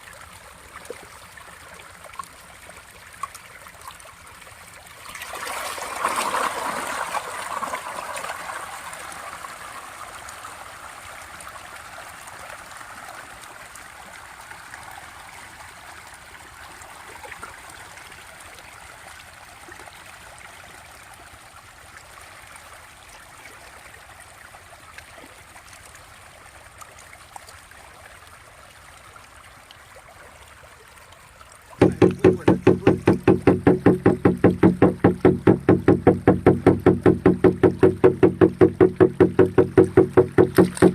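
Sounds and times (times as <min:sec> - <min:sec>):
water splashing and trickling: 0:00.0 - 0:40.9.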